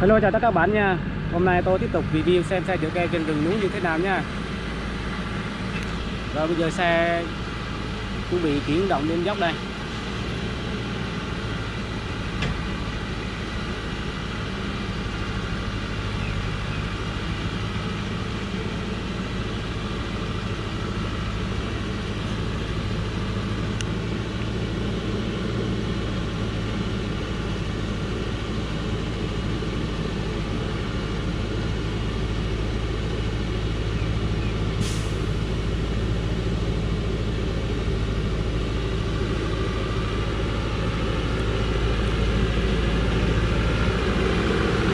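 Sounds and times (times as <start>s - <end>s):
truck diesel engine pulling uphill: 0.0s - 44.9s.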